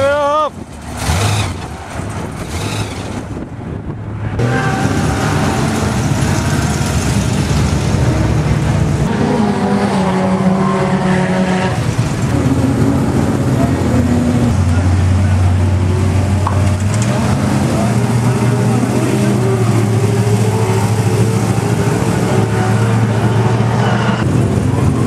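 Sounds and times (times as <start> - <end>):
car engines running loud: 0.0 - 25.0.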